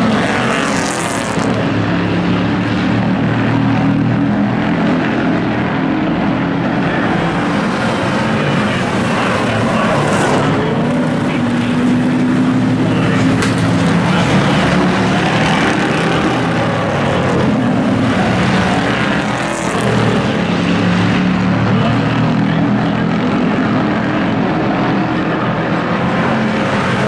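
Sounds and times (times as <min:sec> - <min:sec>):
racing truck engines: 0:00.0 - 0:27.0.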